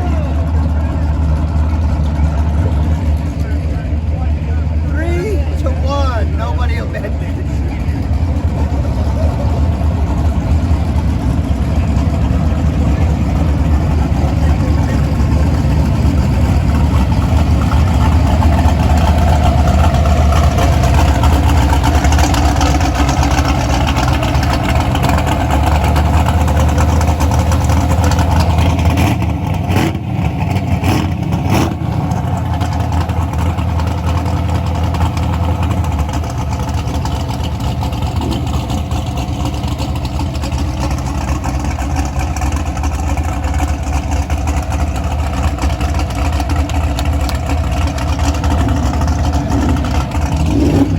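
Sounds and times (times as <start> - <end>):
vehicle engine idling: 0.0 - 50.9.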